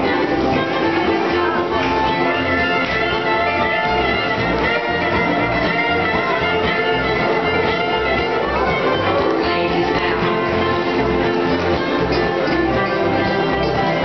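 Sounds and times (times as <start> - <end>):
fiddle: 0.0 - 14.0
guitar: 0.0 - 14.0.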